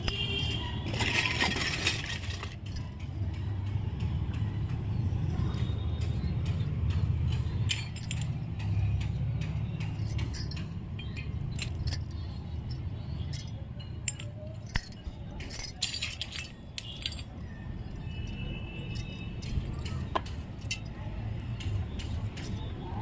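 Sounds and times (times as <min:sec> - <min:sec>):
metal toy pots clinking on concrete: 0:00.0 - 0:04.0, 0:05.2 - 0:23.0.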